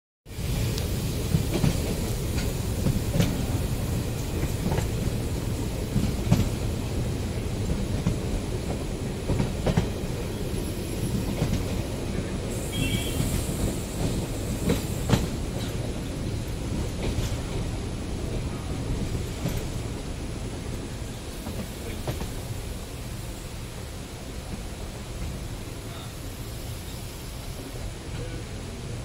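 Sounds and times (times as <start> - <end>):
train rumbling: 0.3 - 29.0.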